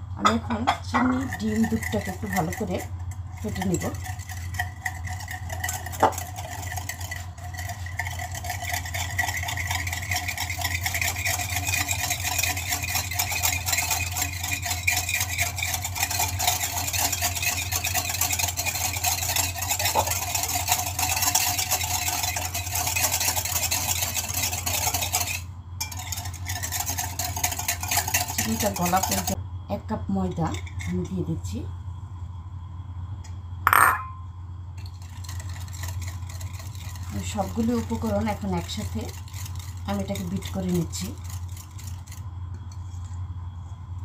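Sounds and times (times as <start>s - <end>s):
whisk ticking against glass bowl: 0.2s - 29.4s, 34.8s - 42.8s.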